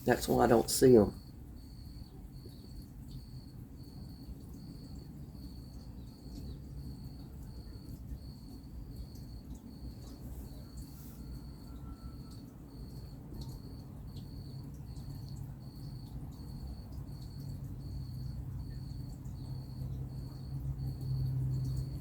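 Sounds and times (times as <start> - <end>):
cricket chirping: 0.0 - 22.0
distant highway traffic rumble: 0.0 - 22.0.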